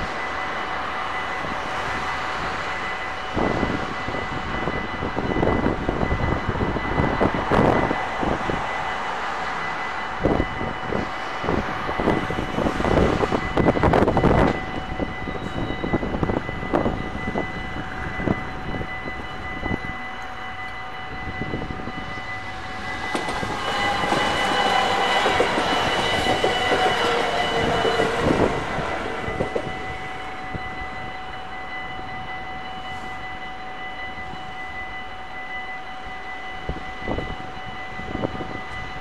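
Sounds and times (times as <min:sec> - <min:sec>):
crossing warning bells ringing: 0:00.0 - 0:39.0
electric train passing: 0:00.0 - 0:39.0.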